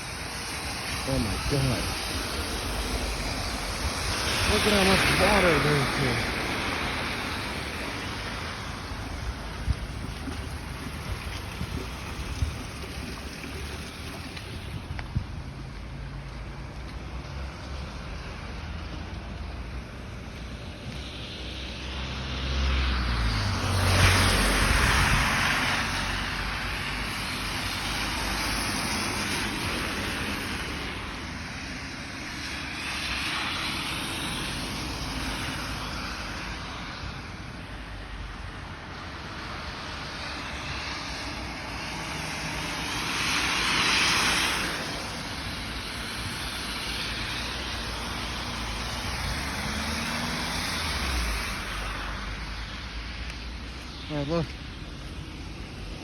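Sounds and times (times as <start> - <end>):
rain on street: 0.0 - 56.0
vehicles passing on wet road: 0.0 - 56.0.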